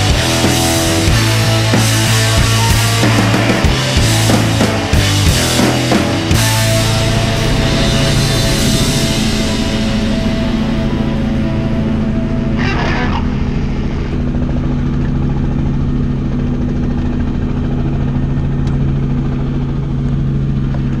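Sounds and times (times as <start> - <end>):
helicopter engine and rotor chop: 0.0 - 21.0.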